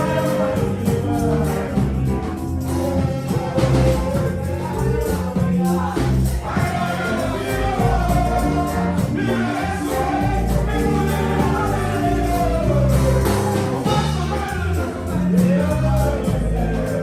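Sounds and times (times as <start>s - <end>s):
choir singing: 0.0s - 17.0s
gospel band with bass and drums: 0.0s - 17.0s.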